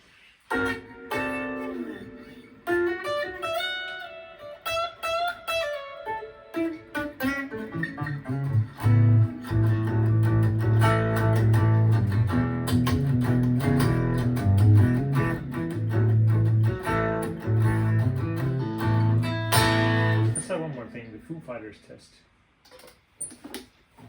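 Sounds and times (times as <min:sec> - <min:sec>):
electric guitar riff: 0:00.5 - 0:21.2.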